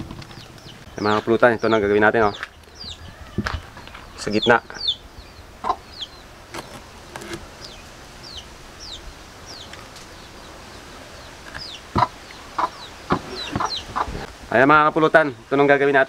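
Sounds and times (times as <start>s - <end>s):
chickens clucking: 0.0s - 14.3s
high falling bird chirps: 0.1s - 14.3s.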